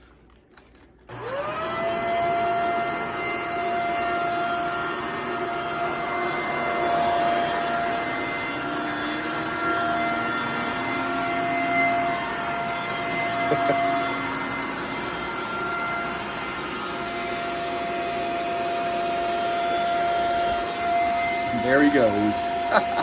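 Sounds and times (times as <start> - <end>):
vacuum cleaner running: 1.1 - 23.0.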